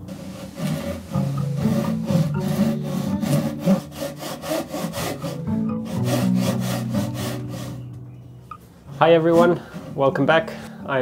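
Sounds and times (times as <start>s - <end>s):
saw cutting wood: 0.0s - 7.9s, 9.2s - 10.3s
background music with low notes: 0.0s - 11.0s.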